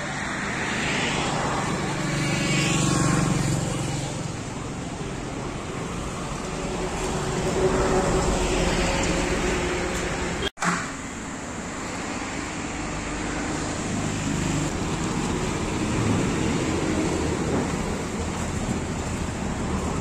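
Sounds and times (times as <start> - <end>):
road traffic noise: 0.0 - 20.0
vehicle engine: 0.0 - 20.0.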